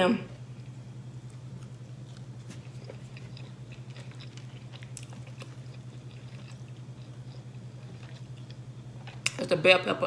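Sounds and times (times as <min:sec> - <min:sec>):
steady low hum: 0:00.0 - 0:10.0
person chewing food: 0:00.5 - 0:09.4.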